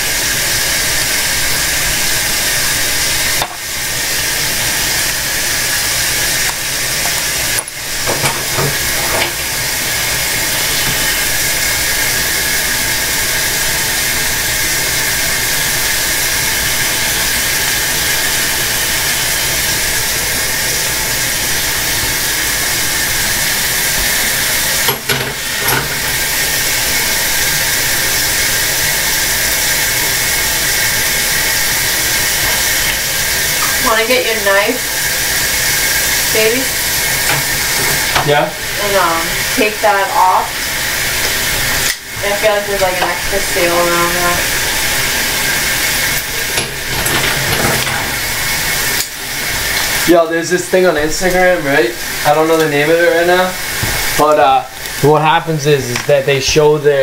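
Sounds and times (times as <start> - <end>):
loud steady hiss: 0.0 - 57.0.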